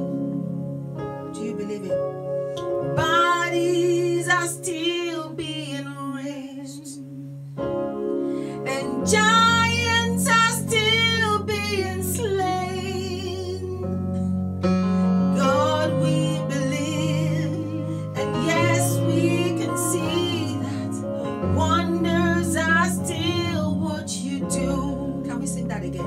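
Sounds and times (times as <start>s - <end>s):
sustained keyboard chords: 0.0s - 26.0s
woman singing gospel song: 1.3s - 2.2s, 2.9s - 7.3s, 8.5s - 14.0s, 15.3s - 26.0s.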